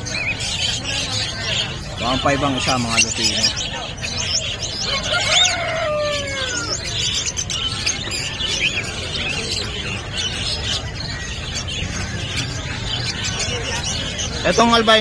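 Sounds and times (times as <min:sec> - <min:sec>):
caged birds chirping: 0:00.0 - 0:15.0
falling bird calls: 0:00.0 - 0:15.0.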